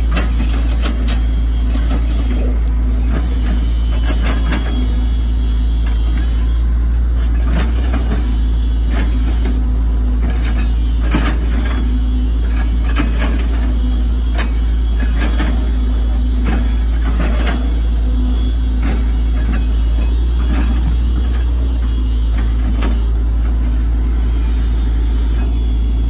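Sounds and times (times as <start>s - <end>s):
excavator diesel engine hum: 0.0s - 26.0s.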